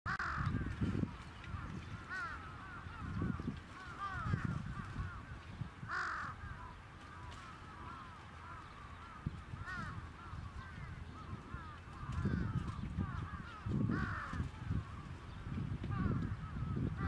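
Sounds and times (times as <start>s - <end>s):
crows cawing: 0.1s - 0.9s, 1.5s - 15.0s, 15.9s - 17.0s.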